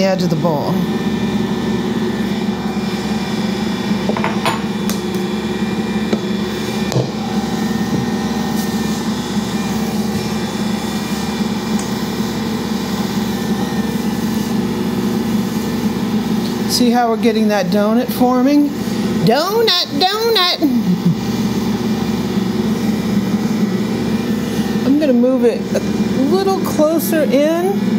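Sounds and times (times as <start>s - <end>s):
stand mixer kneading dough: 0.0s - 27.9s.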